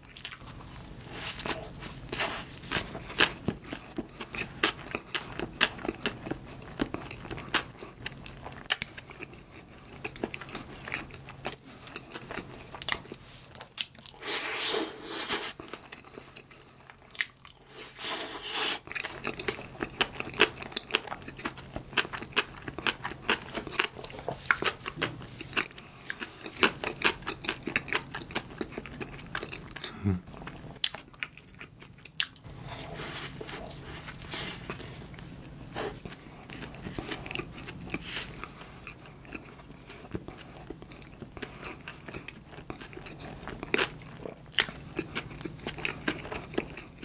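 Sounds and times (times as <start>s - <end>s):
close chewing with mouth clicks: 0.0s - 14.3s, 14.9s - 47.0s.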